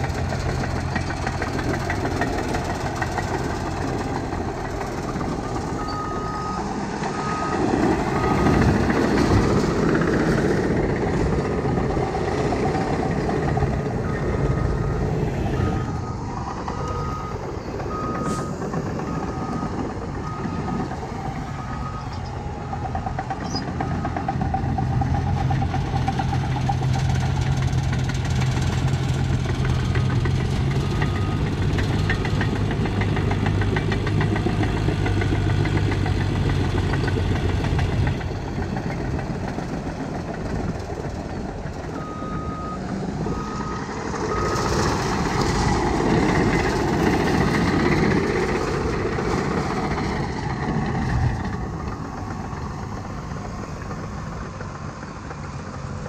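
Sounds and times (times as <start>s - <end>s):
bulldozer engine drone: 0.0s - 56.0s
track noise: 0.0s - 56.0s.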